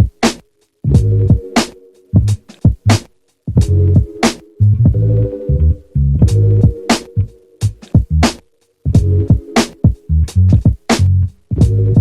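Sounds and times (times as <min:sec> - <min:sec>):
electronic music with drum machine beat: 0:00.0 - 0:12.0.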